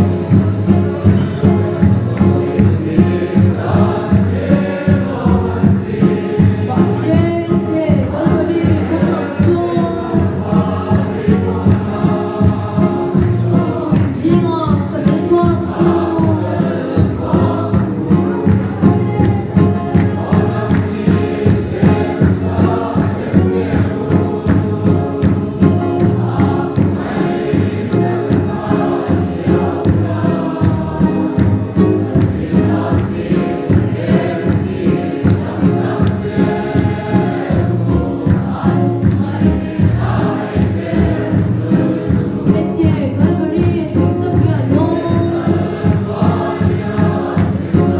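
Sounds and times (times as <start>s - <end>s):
hand-clapping: 0.0s - 5.4s, 6.1s - 43.4s, 45.1s - 47.9s
congregation singing a hymn: 0.0s - 47.9s
drum beat: 0.0s - 47.9s.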